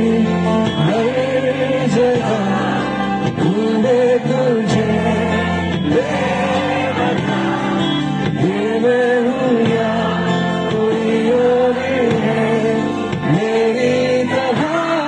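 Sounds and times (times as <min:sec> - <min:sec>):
live band accompaniment: 0:00.0 - 0:15.0
man singing long notes: 0:00.0 - 0:15.0
strummed acoustic guitar: 0:00.0 - 0:15.0.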